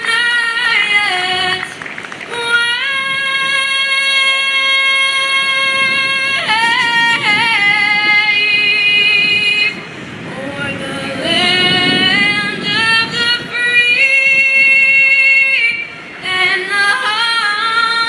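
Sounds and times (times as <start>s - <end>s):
woman singing with vibrato: 0.0s - 18.0s.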